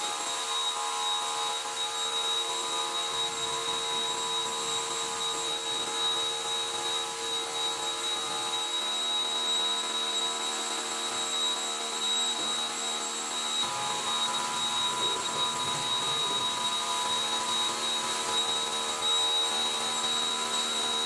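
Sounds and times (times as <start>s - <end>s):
electric machine hum with whine: 0.0s - 21.0s.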